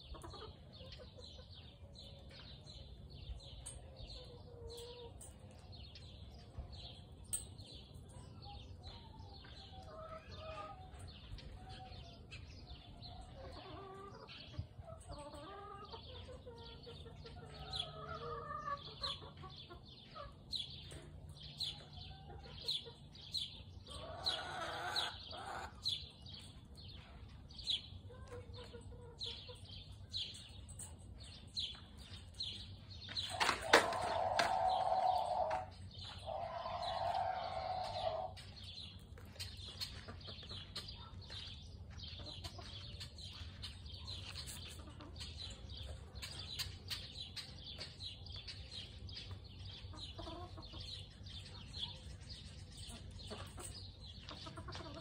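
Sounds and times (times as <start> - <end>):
chickens clucking softly: 0.0 - 6.8, 8.0 - 31.0, 33.2 - 55.0
small birds chirping: 0.0 - 55.0.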